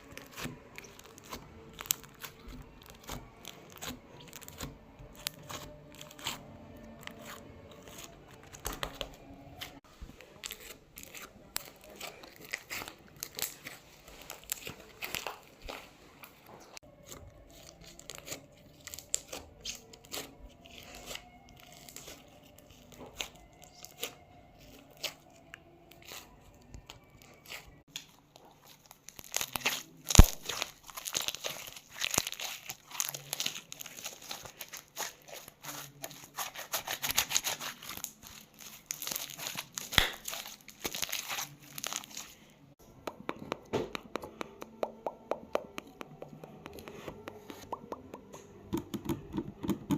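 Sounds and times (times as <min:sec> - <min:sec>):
crinkling and crackling: 0:00.0 - 0:42.8.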